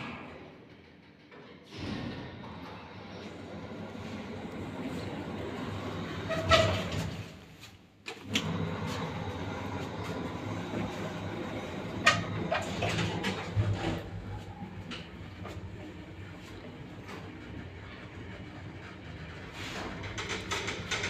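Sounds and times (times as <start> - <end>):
lift humming and rattling: 0.0 - 21.0.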